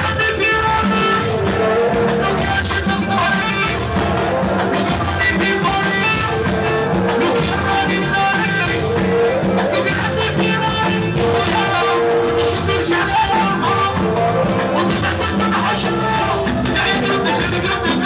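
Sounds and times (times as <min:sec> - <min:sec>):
loud rai music: 0:00.0 - 0:18.0.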